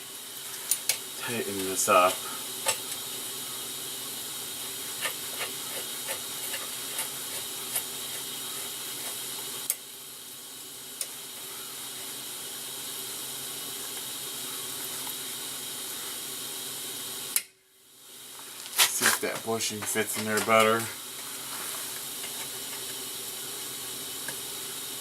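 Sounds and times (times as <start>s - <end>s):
gas torch hissing: 0.0s - 25.0s.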